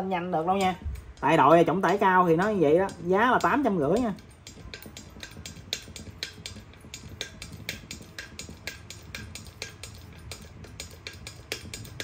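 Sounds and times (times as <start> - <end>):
pneumatic pump ticking: 0.0 - 12.0.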